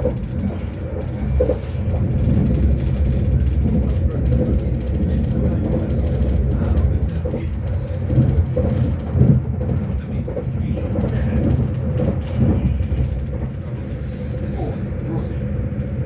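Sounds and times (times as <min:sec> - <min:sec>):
heavy train knocks: 0:00.0 - 0:15.9
train rumble: 0:00.0 - 0:16.0.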